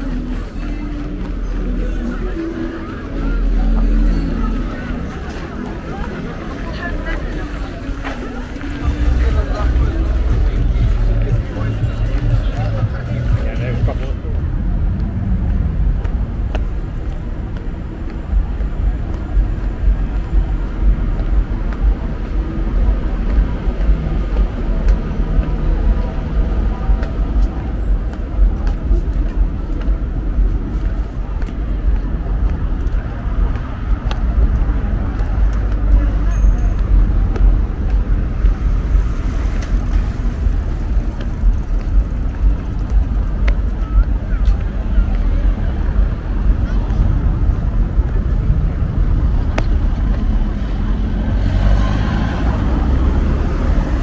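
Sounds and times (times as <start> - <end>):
low city rumble: 0.0 - 54.0.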